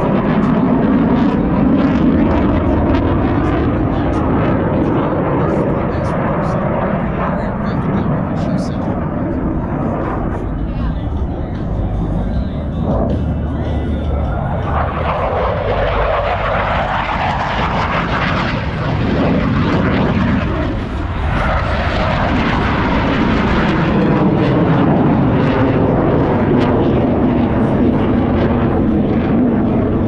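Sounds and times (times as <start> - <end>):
jet roar: 0.0 - 30.0.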